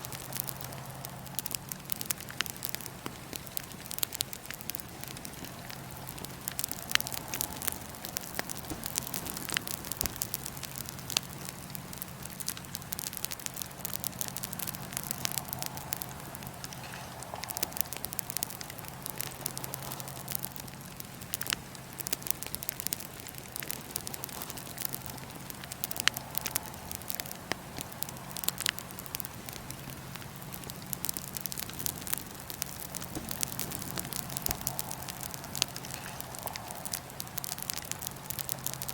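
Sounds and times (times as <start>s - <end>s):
sharp pops of fire: 0.0s - 38.9s
wood fire crackling: 0.0s - 38.9s.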